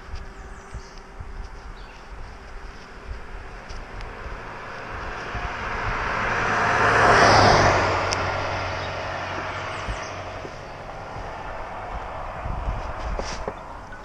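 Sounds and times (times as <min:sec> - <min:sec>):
motorcycle humming: 0:00.0 - 0:14.0
wind noise: 0:00.0 - 0:14.0
vehicle passing whoosh: 0:02.5 - 0:14.0.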